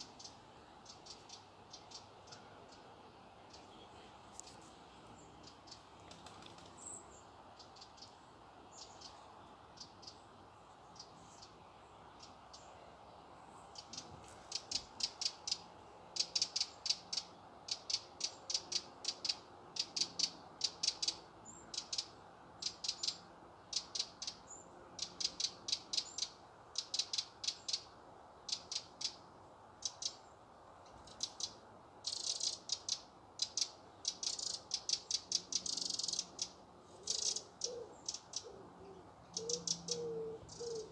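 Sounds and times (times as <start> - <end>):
wrens ticking calls: 0.0 - 3.8, 5.4 - 6.9, 7.6 - 9.2, 13.7 - 38.6, 39.2 - 40.9.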